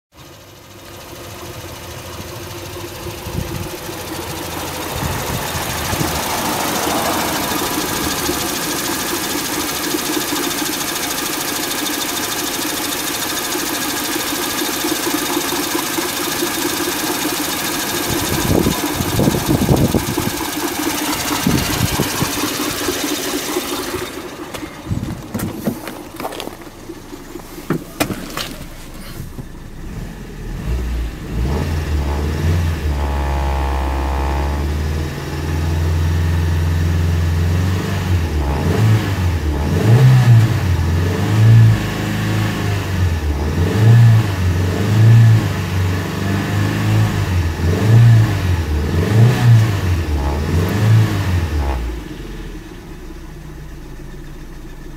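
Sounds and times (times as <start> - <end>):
engine knocks and clatter: 0.1 - 54.9
car engine revving: 1.0 - 54.9.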